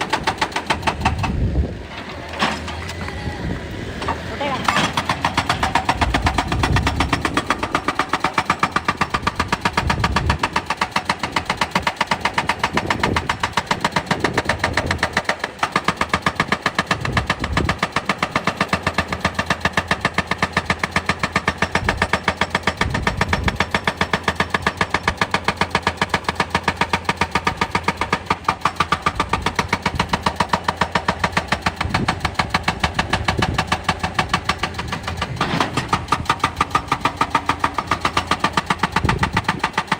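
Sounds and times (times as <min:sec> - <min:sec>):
excavator diesel engine pounding: 0:00.0 - 0:39.9.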